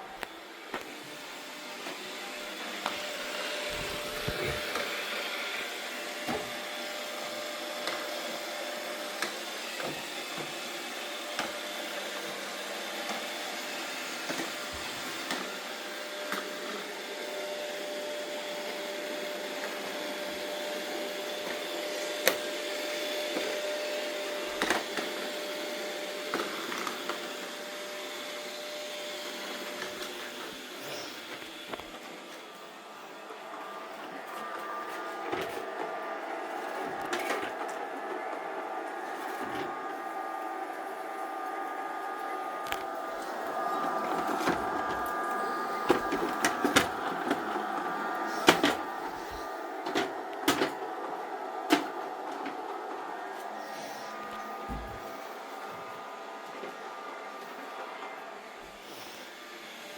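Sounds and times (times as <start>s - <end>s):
robot vacuum cleaner whirring: 0.0s - 59.9s.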